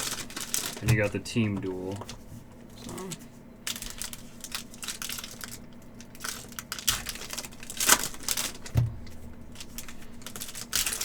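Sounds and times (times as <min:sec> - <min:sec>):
card packs torn open: 0:00.0 - 0:01.2, 0:02.8 - 0:11.0
wrappers crinkling: 0:00.0 - 0:11.0.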